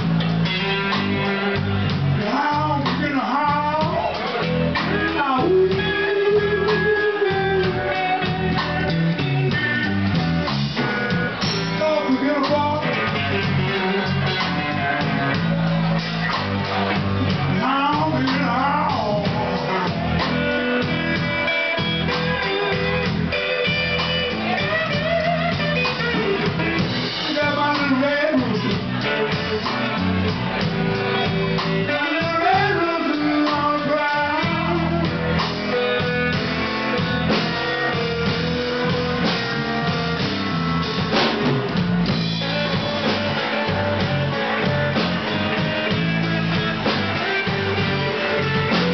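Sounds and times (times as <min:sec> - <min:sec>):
electric guitar bending notes: 0:00.0 - 0:48.9
live blues band playing: 0:00.0 - 0:48.9.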